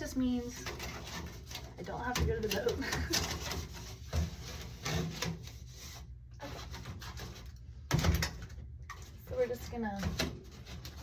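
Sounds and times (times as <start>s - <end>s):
hose rubbing and scraping: 0.0s - 7.7s, 8.9s - 11.0s.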